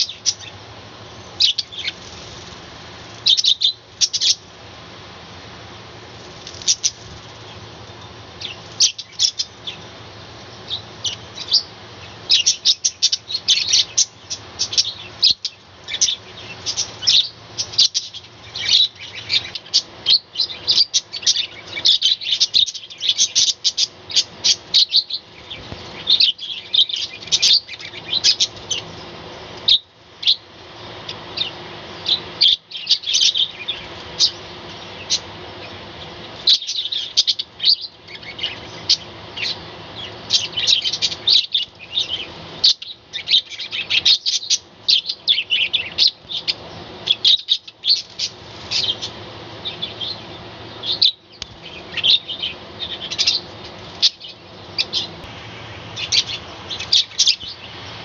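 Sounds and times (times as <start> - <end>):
budgerigars chattering and chirping: 0.0 - 0.6, 1.4 - 2.4, 3.2 - 4.4, 6.5 - 7.6, 8.4 - 9.9, 10.6 - 29.1, 31.1 - 58.0.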